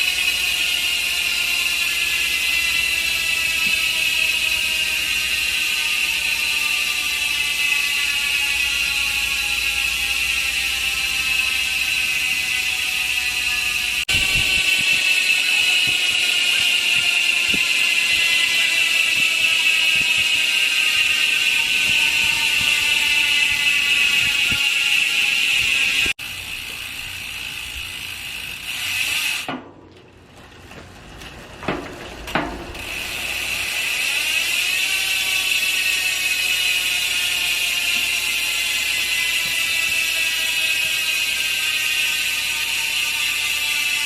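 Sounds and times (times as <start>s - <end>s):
bicycle hub freewheel buzzing: 0.0s - 44.0s.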